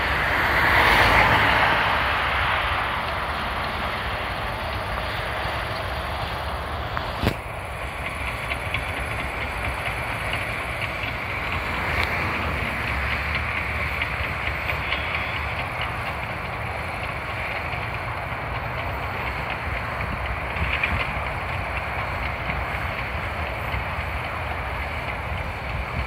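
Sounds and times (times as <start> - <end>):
diesel engine running: 0.0 - 26.0
steel tracks clattering: 0.0 - 26.0.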